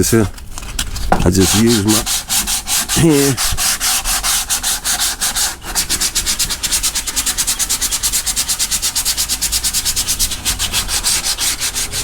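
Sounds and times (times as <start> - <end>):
sandpaper rubbing on filler: 1.3 - 12.0.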